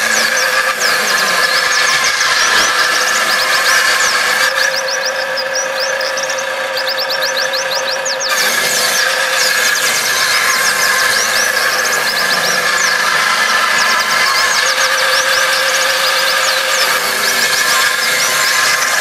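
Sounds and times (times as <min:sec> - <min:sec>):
high squeaks: 0:00.0 - 0:19.0
table saw whine: 0:00.0 - 0:19.0.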